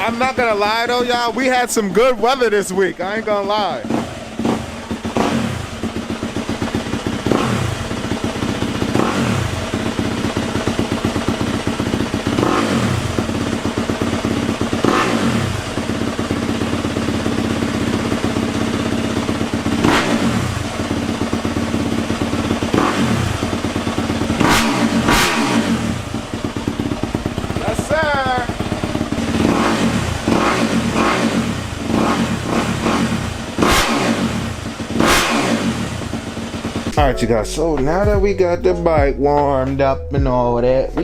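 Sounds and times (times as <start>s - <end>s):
motorcycle engine idling with throttle blips: 0.0s - 37.0s.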